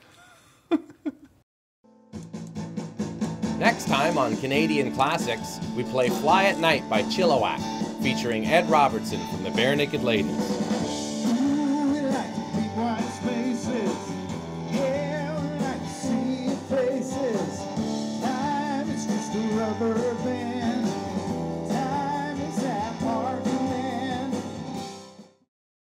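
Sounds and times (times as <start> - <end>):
acoustic guitar: 2.1 - 25.2
rock band playing: 2.1 - 25.2
man singing: 3.6 - 24.8.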